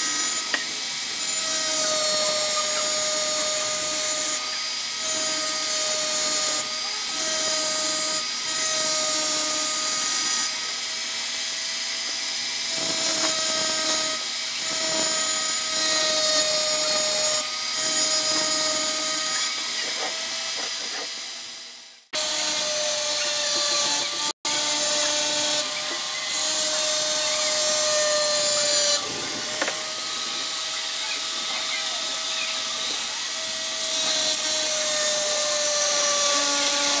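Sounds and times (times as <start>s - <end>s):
rotary tool grinding glass: 0.0s - 21.4s, 22.0s - 37.0s.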